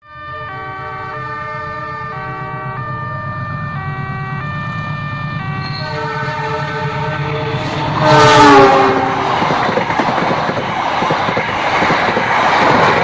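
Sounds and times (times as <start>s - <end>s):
train rumbling: 0.2s - 13.0s.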